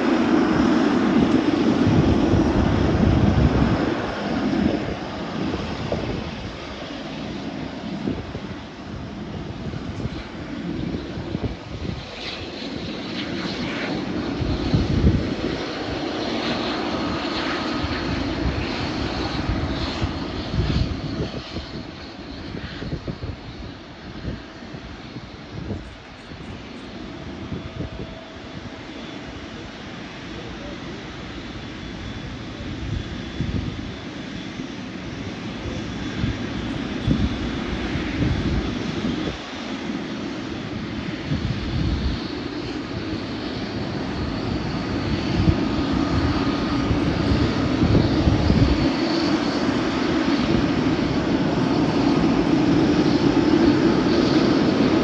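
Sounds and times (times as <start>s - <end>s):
airliner engines rumbling: 0.0s - 55.0s.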